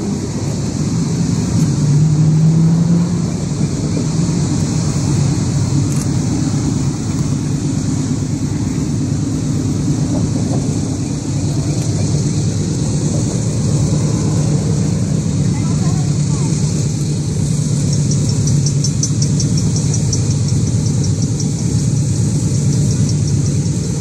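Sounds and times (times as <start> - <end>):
locomotive engines droning: 0.0 - 24.0.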